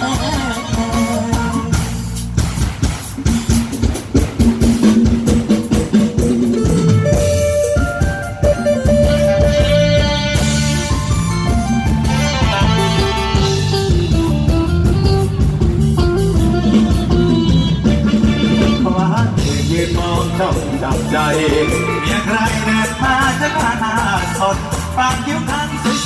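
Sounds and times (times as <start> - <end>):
steady drum beat: 0.0 - 26.0.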